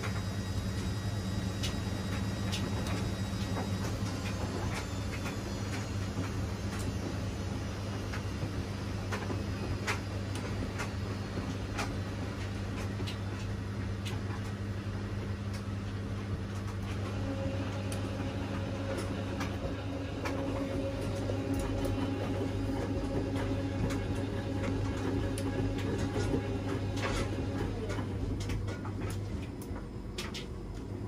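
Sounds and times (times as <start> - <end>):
washing machine motor hum: 0.0 - 31.0.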